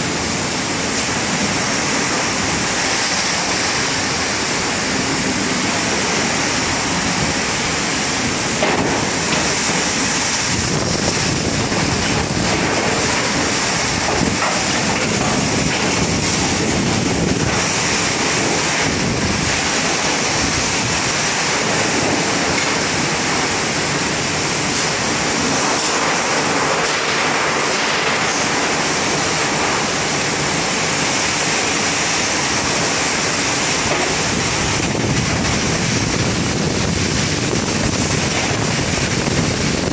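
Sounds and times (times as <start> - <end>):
heavy rain on metal roofs: 0.0 - 39.9.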